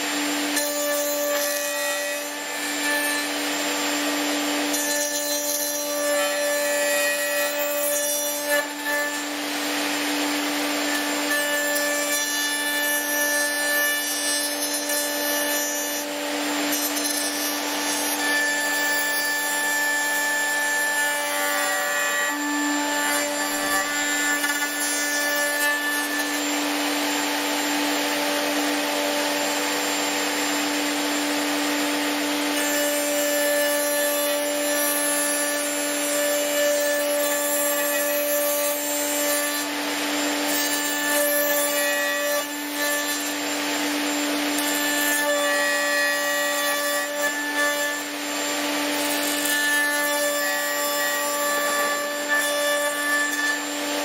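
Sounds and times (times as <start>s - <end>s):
electric router cutting wood: 0.0s - 54.0s.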